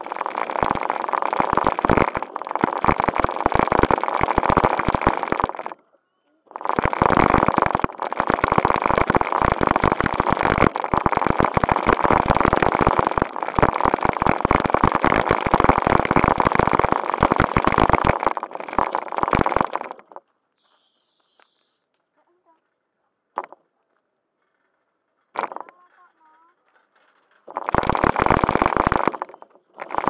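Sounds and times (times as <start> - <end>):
toy car wheels crackling on gravel: 0.0 - 5.8, 6.4 - 22.6, 23.4 - 30.0.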